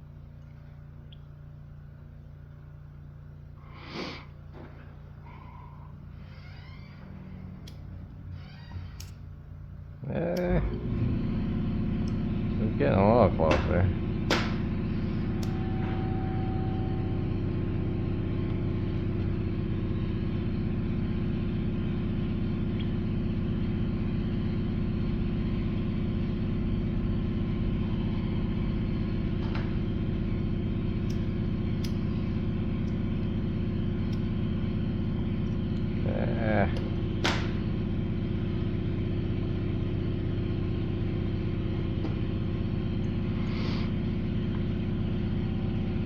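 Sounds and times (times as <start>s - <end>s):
motor humming: 3.7s - 46.0s.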